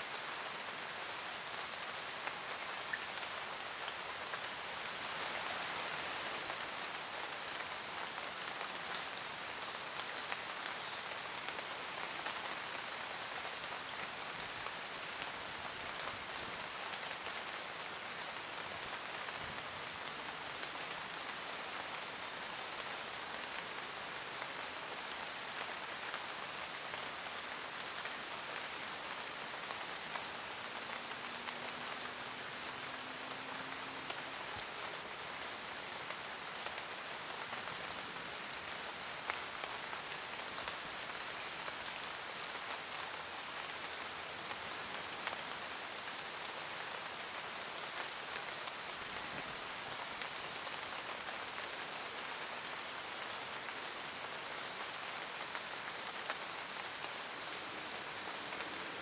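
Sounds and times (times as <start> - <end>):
steady rain in forest: 0.0 - 59.0.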